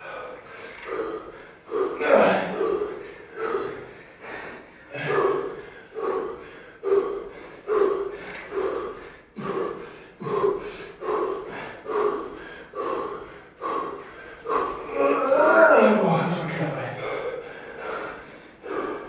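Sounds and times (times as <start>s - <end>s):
man breathing hard: 0.0s - 19.0s.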